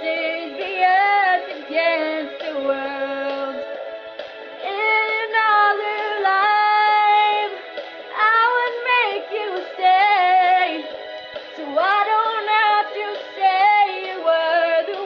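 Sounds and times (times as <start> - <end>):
girl singing pop chorus: 0.0 - 3.8, 4.6 - 15.0.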